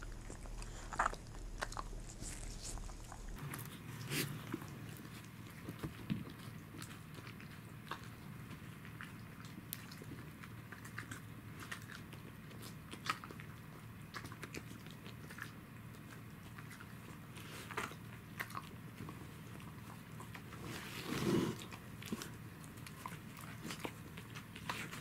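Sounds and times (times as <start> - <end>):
dogs crunching treats: 0.0 - 25.0
low steady background hum: 0.0 - 25.0.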